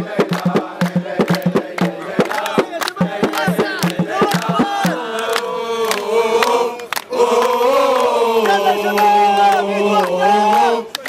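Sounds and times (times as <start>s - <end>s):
crowd of men chanting: 0.0s - 11.0s
hand-clapping: 0.2s - 11.0s.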